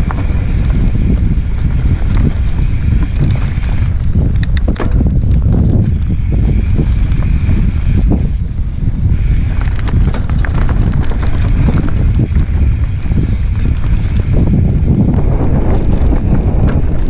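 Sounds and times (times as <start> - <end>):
bike knocks and rattles: 0.0 - 17.0
rumble of wind and tyres: 0.0 - 17.0.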